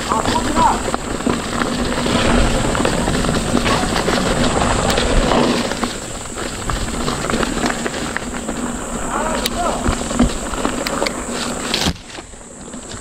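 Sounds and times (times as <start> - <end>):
wind buffeting microphone: 0.0 - 11.6
bike tyres rumbling over ground: 0.0 - 13.0
steady high hiss: 0.0 - 13.0.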